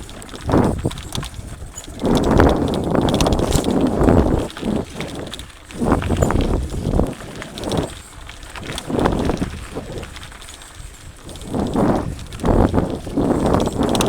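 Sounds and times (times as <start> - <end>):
bike clattering and rattling: 0.0 - 14.0
tyres crunching over rocks: 0.0 - 14.0.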